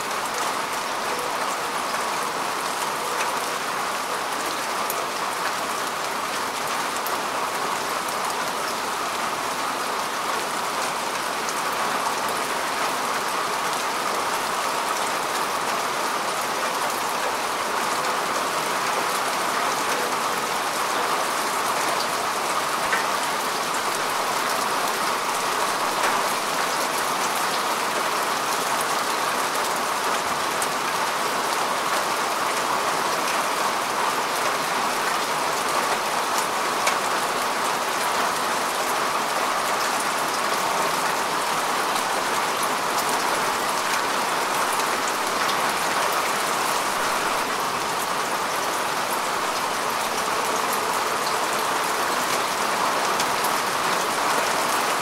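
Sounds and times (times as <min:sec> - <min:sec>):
rain on grass: 0:00.0 - 0:55.0.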